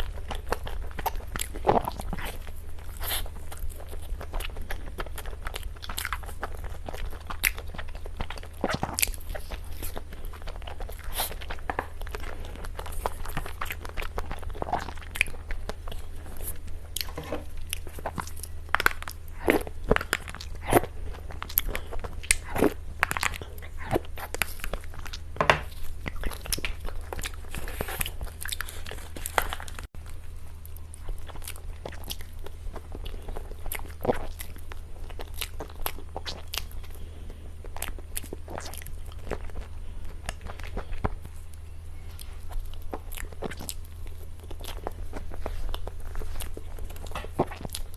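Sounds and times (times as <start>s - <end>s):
chewing cake: 0.0s - 47.9s
steady low hum: 0.0s - 47.9s.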